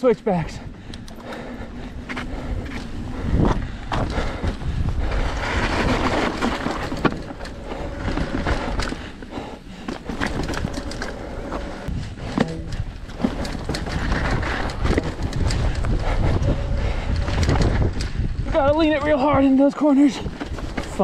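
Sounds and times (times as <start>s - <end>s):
bike tyres rumbling over dirt: 0.7s - 21.0s
bike frame rattling and clicking: 0.8s - 21.0s.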